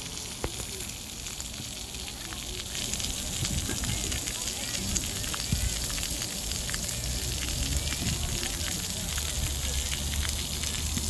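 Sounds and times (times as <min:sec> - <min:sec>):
water jets spraying: 0:00.0 - 0:11.0.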